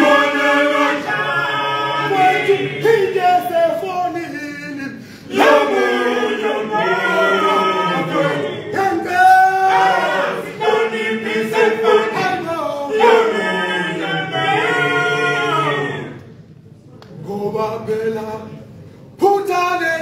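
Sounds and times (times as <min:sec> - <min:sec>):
male choir singing: 0:00.0 - 0:16.2.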